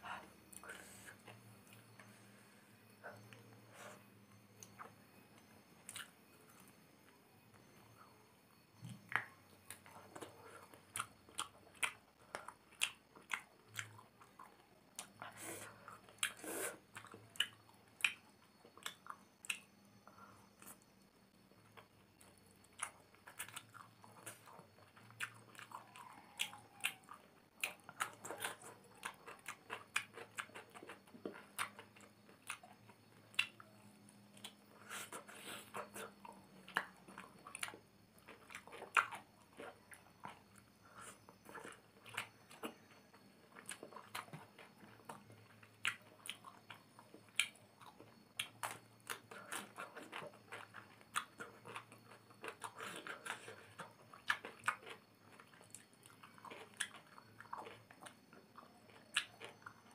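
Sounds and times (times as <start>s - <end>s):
chewing with mouth smacks: 4.6s - 6.8s, 8.8s - 20.9s, 21.6s - 59.9s.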